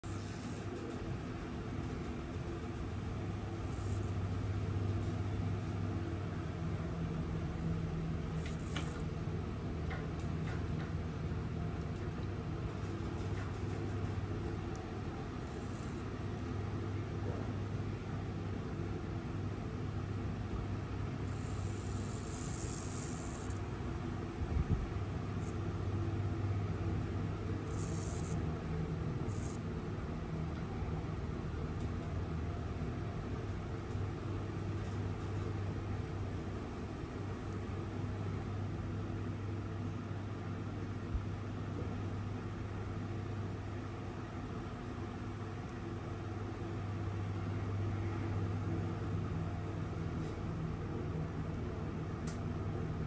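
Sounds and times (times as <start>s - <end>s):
low mechanical hum: 0.0s - 53.0s.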